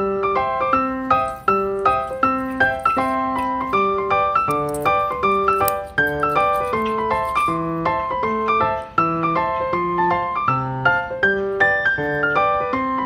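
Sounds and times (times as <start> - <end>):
light piano music: 0.0 - 13.0.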